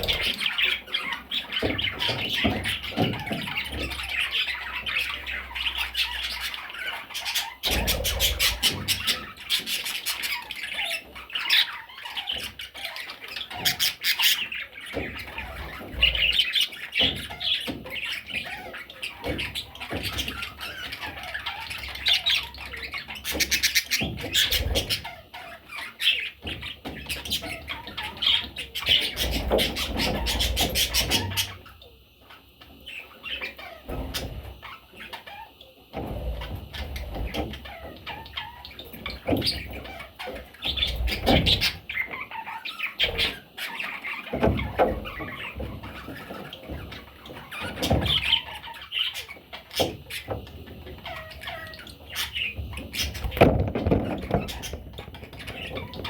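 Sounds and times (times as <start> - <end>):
parrot chicks squawking: 0.0 - 56.0.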